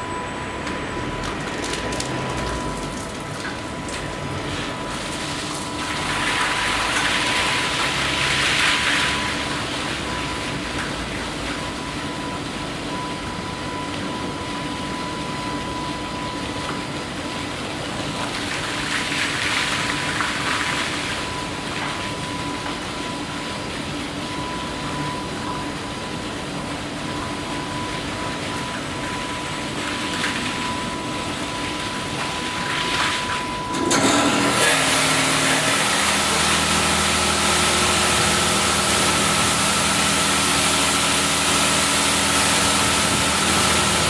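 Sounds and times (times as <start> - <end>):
car wash machine hum: 0.0 - 44.0.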